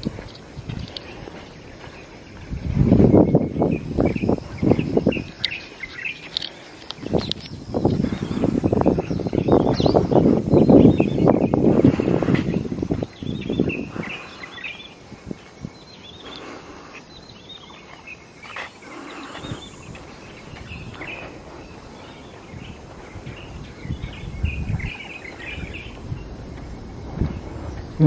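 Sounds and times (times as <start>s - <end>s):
outdoor background noise: 0.0s - 28.0s
small birds chirping: 0.0s - 28.0s.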